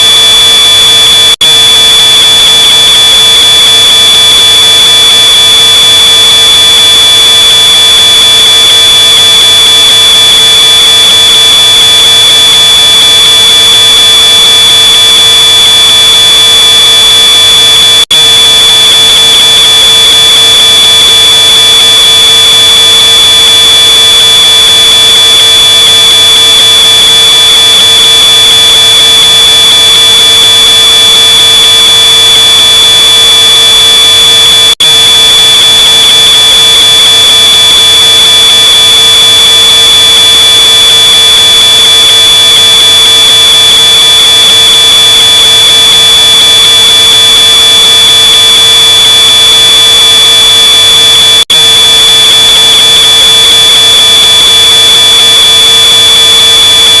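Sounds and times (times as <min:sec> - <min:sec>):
smoke alarm high-pitched tone: 0:00.0 - 0:57.0.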